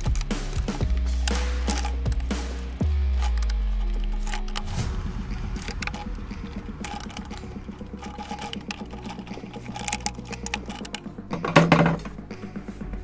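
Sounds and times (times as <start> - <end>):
plastic clatter: 0.0 - 4.8, 5.4 - 12.2
screwdriver clicking: 0.0 - 11.1.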